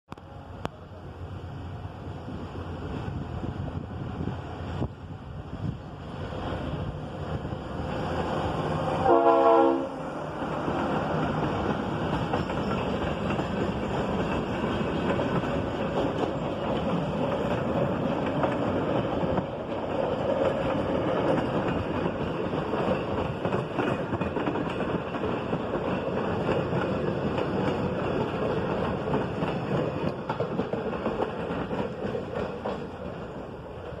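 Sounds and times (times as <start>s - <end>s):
train wheels rumbling on rails: 0.1s - 34.0s.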